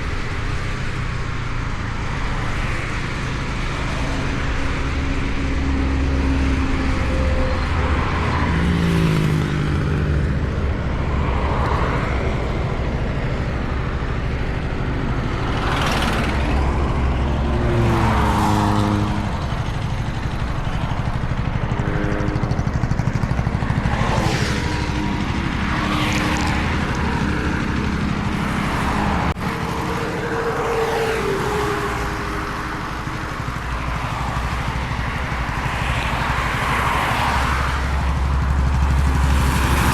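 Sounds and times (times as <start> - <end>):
motorcycle engine running: 0.0 - 39.9
vehicles passing whooshes: 0.0 - 39.9
wind and road noise: 0.0 - 39.9.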